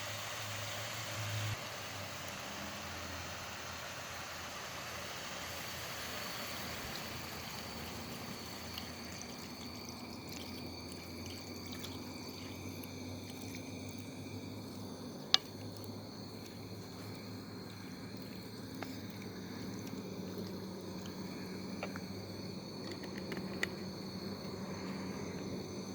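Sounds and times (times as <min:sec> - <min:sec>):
watery hiss: 0:00.0 - 0:23.1.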